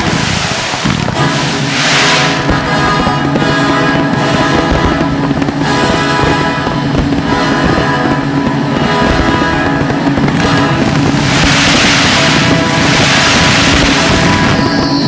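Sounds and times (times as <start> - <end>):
firework shells bursting: 0.0 - 14.8.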